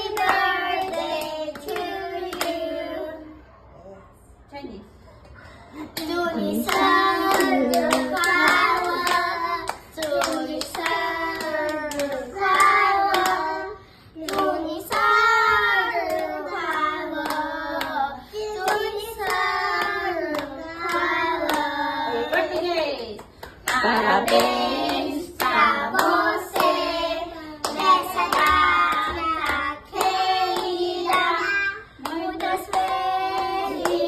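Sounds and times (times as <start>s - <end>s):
people clapping in rhythm: 0.0s - 2.7s, 5.9s - 34.0s
woman and girls singing: 0.0s - 3.4s, 6.0s - 34.0s.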